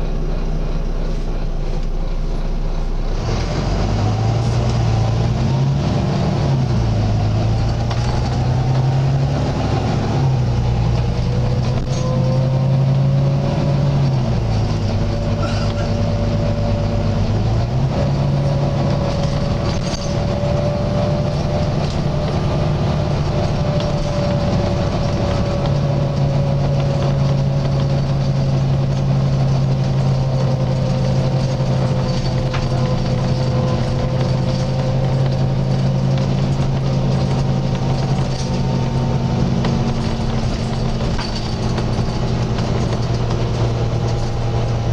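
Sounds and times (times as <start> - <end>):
bus diesel engine: 0.0 - 44.9
slight groaning noise: 7.3 - 44.9.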